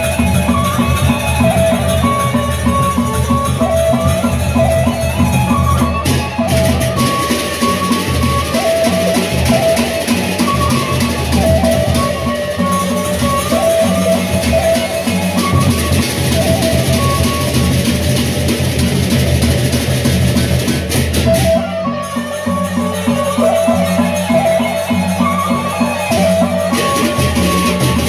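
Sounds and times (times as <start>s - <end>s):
barrel drums: 0.0s - 28.0s
cymbals: 0.0s - 28.0s
flute melody: 0.0s - 28.0s.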